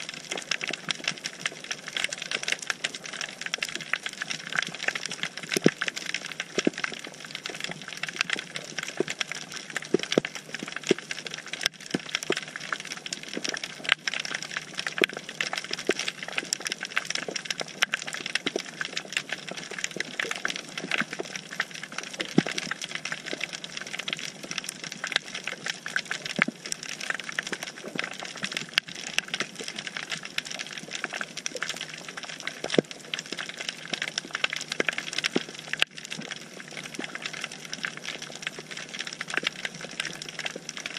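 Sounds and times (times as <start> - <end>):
snapping shrimp crackling underwater: 0.0 - 40.9.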